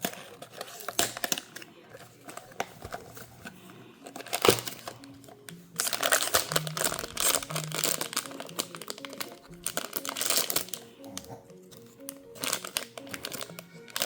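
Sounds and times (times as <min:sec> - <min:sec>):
background music: 0:00.0 - 0:14.0
packaging crinkling: 0:00.0 - 0:14.0.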